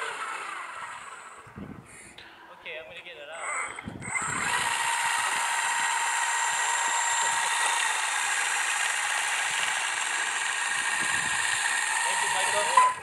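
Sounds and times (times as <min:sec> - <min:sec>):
electric motors whining: 0:00.0 - 0:02.2, 0:03.3 - 0:13.0.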